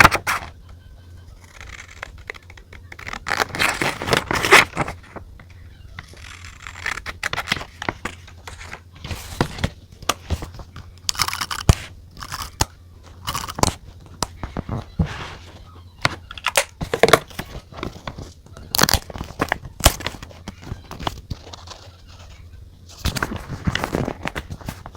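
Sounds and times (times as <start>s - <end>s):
paper rustling and crinkling: 0.0s - 0.5s, 1.4s - 5.3s, 6.0s - 24.9s
faint low hum: 0.0s - 24.9s.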